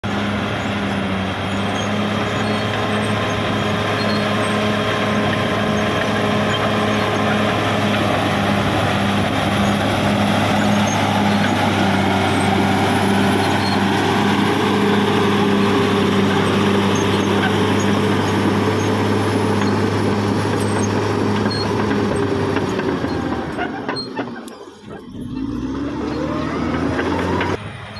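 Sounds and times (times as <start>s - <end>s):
bulldozer diesel engine droning: 0.0s - 27.9s.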